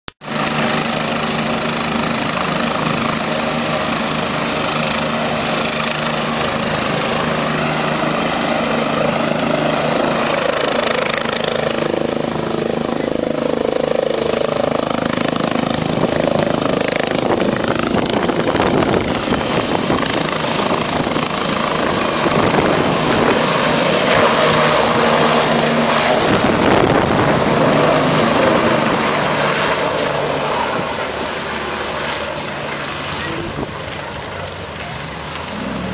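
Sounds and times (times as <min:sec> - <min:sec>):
helicopter engine and rotor: 0:00.2 - 0:35.9.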